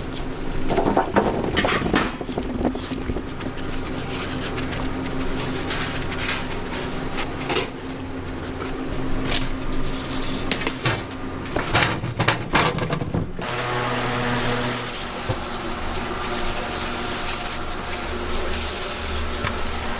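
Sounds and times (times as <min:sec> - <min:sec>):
steady machine hum: 0:00.0 - 0:19.9.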